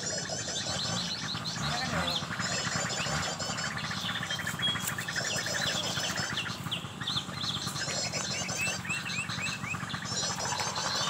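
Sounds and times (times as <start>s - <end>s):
sunbirds chattering song: 0.0s - 11.0s.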